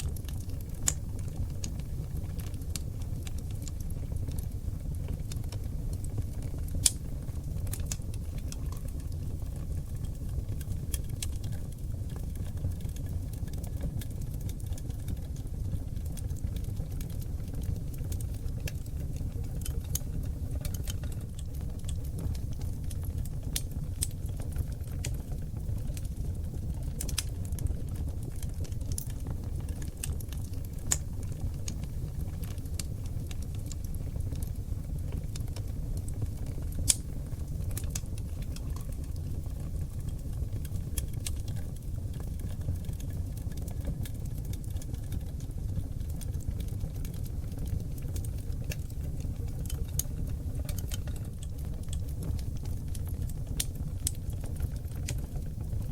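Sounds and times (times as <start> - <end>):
fire crackles and pops: 0.0 - 55.9
logs burning in fireplace: 0.0 - 55.9.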